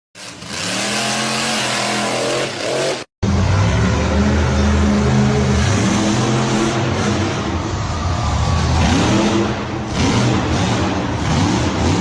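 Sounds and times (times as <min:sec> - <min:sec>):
monster truck engine revving: 0:00.2 - 0:12.0.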